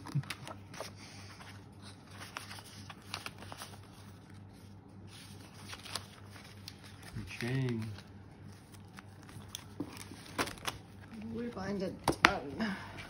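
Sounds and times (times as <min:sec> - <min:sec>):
banknotes rustling: 0:00.0 - 0:12.0
low steady hum: 0:00.0 - 0:13.0.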